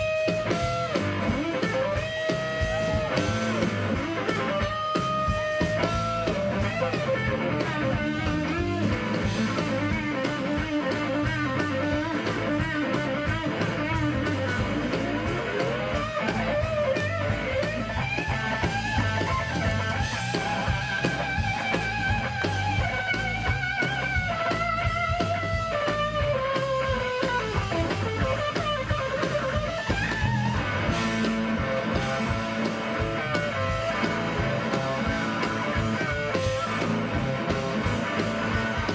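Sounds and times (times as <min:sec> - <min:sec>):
blues electric guitar solo: 0:00.0 - 0:38.9
drum kit: 0:00.0 - 0:38.9.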